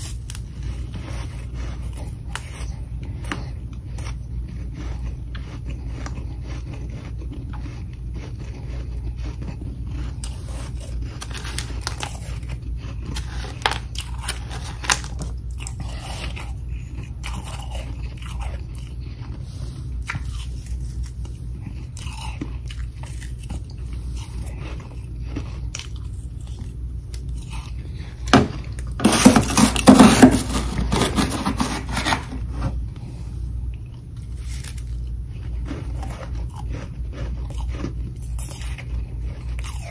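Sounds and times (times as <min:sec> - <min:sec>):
frost crunching in mouth: 0:00.0 - 0:19.4, 0:20.0 - 0:32.1, 0:33.8 - 0:39.9
steady low hum: 0:00.0 - 0:39.9.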